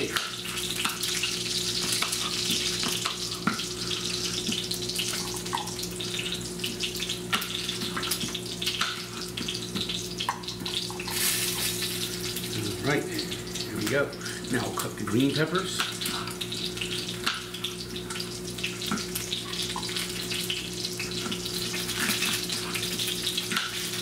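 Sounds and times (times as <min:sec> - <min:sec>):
low steady hum: 0:00.0 - 0:24.0
sausage sizzling in a frying pan: 0:00.0 - 0:24.0.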